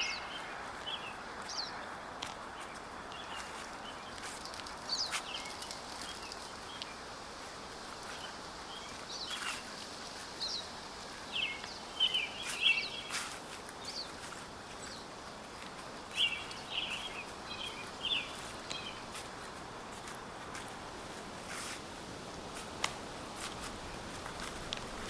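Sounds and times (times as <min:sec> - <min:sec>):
outdoor background hiss: 0:00.0 - 0:25.0
songbirds chirping: 0:00.0 - 0:25.0.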